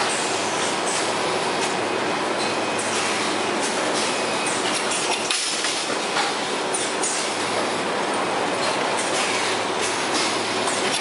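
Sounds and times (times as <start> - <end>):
conveyor mechanical clatter: 0.0 - 11.0.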